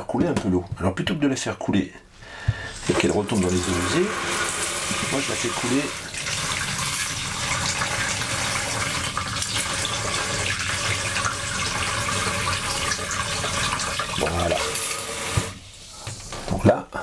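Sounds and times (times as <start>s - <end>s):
shower water splashing into jug: 2.7s - 16.6s.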